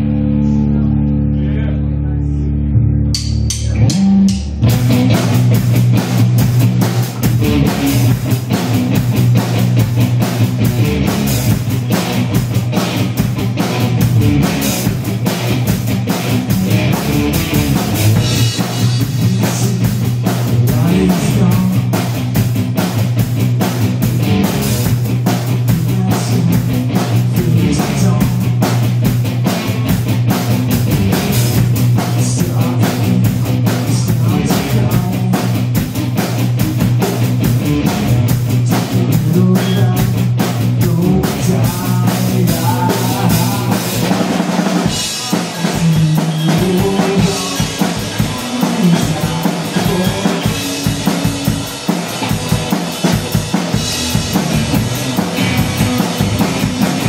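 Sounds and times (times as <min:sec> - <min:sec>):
electric guitar: 0:00.0 - 0:57.0
drum kit: 0:03.1 - 0:57.0.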